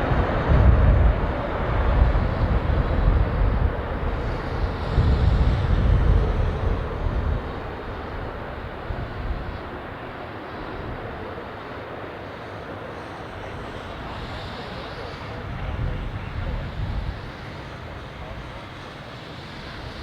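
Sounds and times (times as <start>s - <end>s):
jet engine deep rumble: 0.0s - 20.0s.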